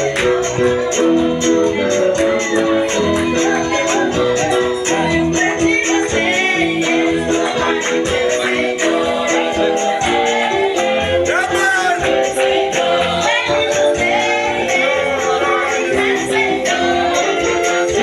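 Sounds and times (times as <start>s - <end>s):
shaker beat: 0.0s - 18.0s
upbeat gospel music with singing: 0.0s - 18.0s.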